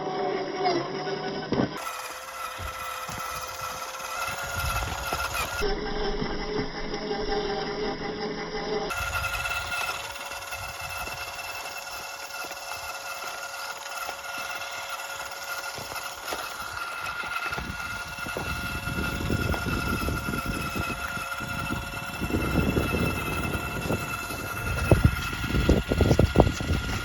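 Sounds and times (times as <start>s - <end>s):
small electric motors whining: 0.0s - 27.0s.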